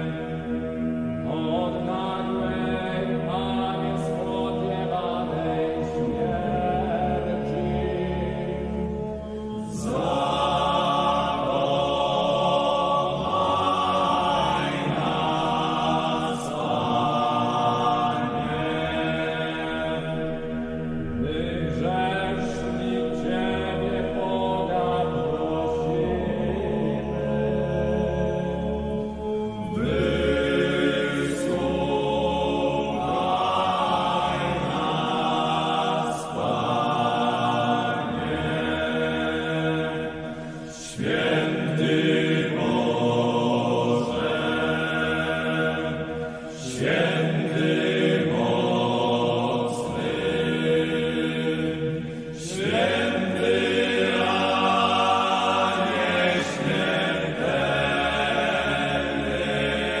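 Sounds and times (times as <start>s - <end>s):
slow choral chanting: 0.0s - 60.0s.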